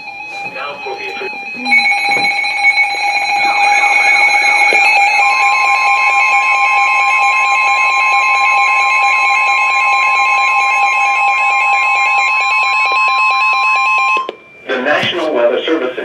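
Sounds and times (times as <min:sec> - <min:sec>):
warbling siren-like sweep: 0:00.0 - 0:14.9
steady high alert tones: 0:00.0 - 0:15.0.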